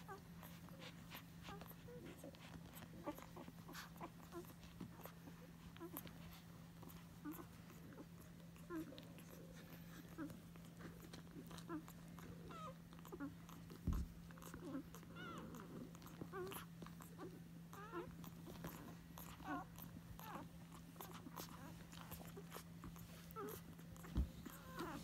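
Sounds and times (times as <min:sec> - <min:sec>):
low steady hum: 0:00.0 - 0:25.0
puppies squeaking and grunting: 0:00.0 - 0:25.0.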